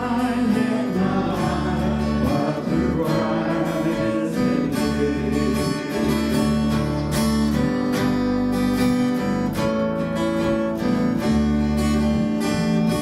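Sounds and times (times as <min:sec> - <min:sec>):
acoustic guitar strumming: 0:00.0 - 0:13.0
low bass notes: 0:00.0 - 0:13.0.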